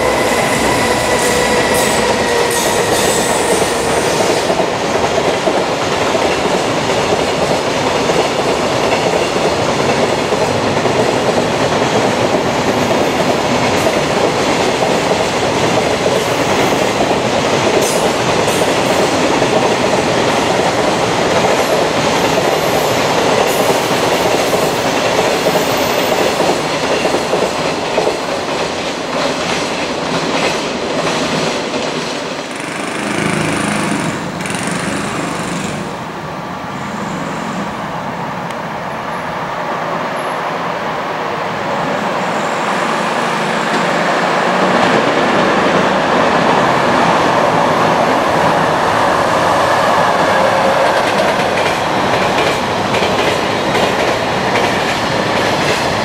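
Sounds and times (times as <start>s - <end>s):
freight train wheels clattering: 0.0s - 35.9s, 43.7s - 56.0s.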